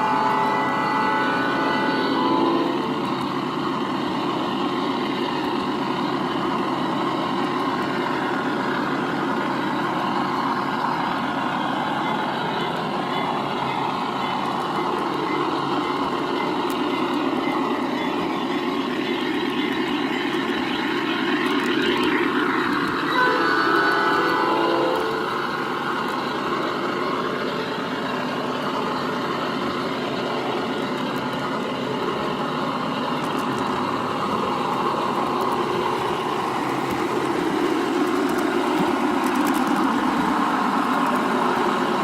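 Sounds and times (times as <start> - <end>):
diesel engine sound from small speaker: 0.0 - 39.2.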